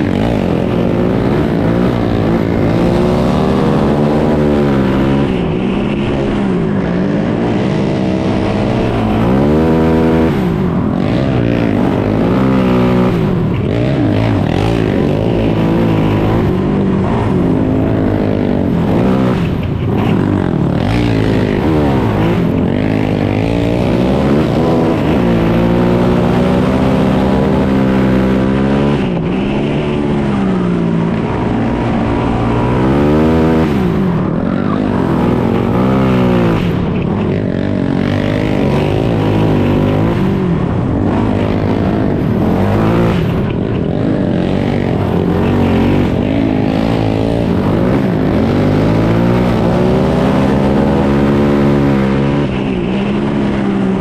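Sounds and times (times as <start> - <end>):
quad engine racing: 0.0 - 54.0.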